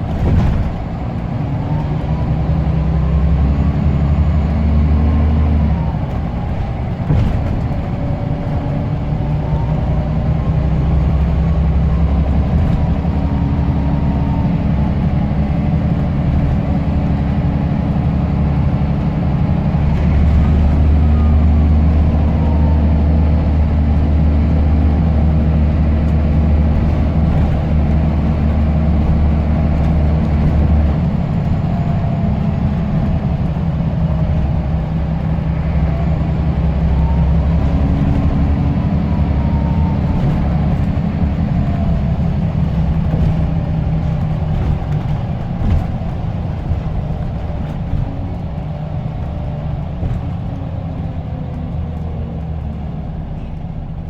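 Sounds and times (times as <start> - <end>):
diesel bus engine under load: 0.0 - 54.0.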